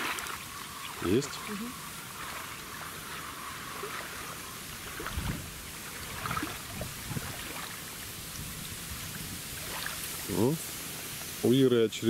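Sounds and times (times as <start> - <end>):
fish splashing: 0.0 - 11.4
small waves lapping against shore: 0.0 - 12.0
steady wind hiss: 0.0 - 12.0.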